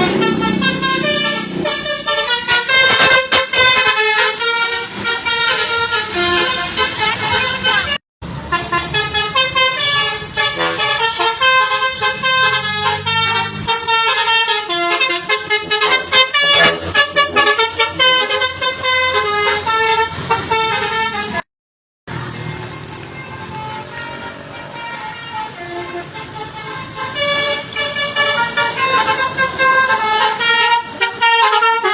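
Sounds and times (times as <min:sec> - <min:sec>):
bus horn playing melody: 0:00.0 - 0:21.5, 0:22.4 - 0:31.9.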